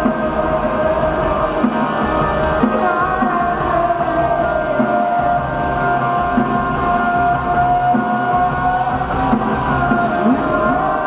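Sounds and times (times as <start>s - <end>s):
electric guitar sustained notes: 0.0s - 11.0s
rock band playing live: 0.0s - 11.0s.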